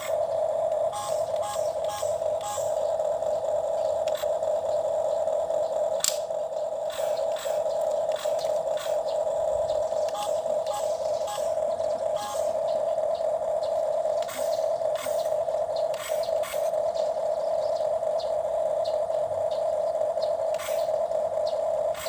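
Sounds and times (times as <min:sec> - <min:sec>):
toy electric motor whirring: 0:00.0 - 0:22.0.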